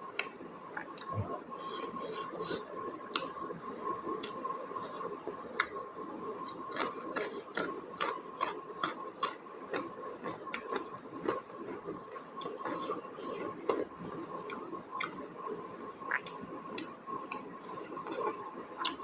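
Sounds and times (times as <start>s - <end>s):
faint steady whine: 0.0s - 19.0s
person chewing food: 0.2s - 3.3s, 4.2s - 5.7s, 6.4s - 15.3s, 16.1s - 19.0s.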